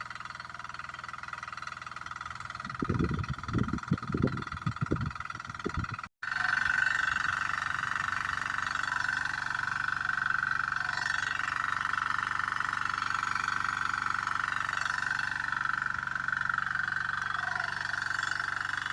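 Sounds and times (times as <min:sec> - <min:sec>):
diesel water pump running: 0:00.0 - 0:18.9.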